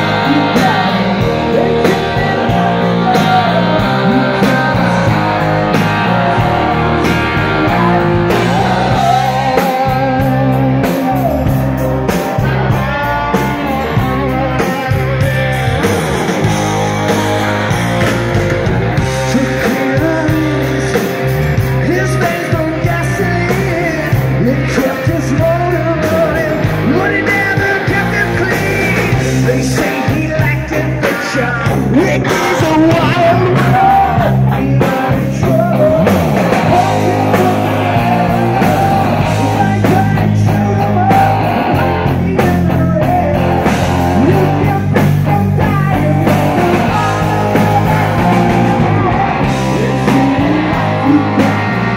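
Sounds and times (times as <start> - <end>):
rock music with singing: 0.0 - 51.9.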